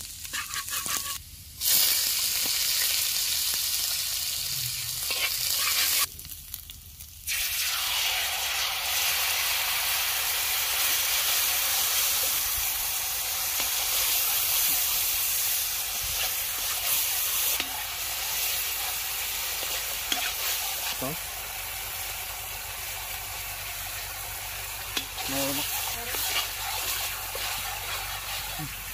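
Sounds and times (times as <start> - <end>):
chicken deep-frying in oil: 0.0 - 28.9.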